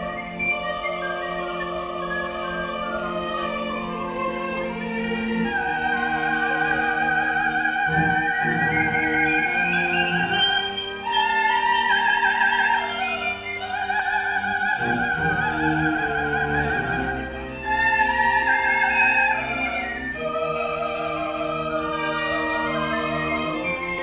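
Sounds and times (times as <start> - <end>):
string ensemble chords: 0.0 - 24.0.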